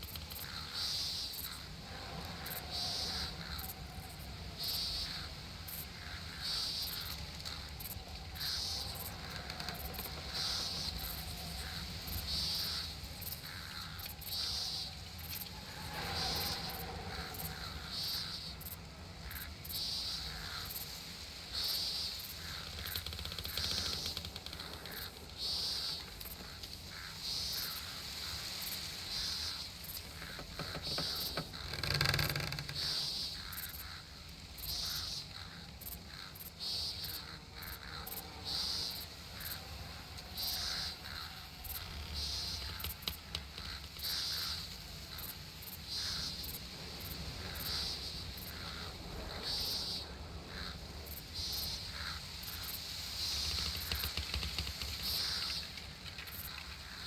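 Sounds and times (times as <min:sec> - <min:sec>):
birds chirping faintly: 0:00.0 - 0:57.0.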